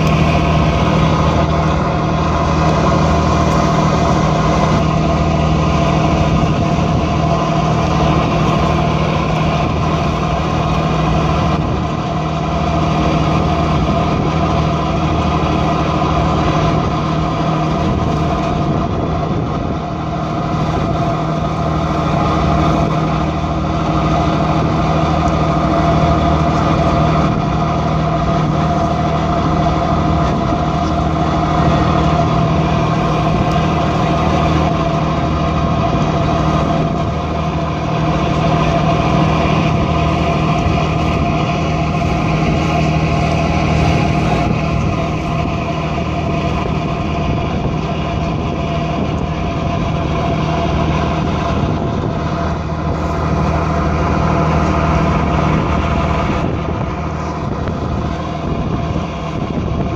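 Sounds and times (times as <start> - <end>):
boat engine droning: 0.0 - 59.9
rushing wind and water: 0.0 - 59.9.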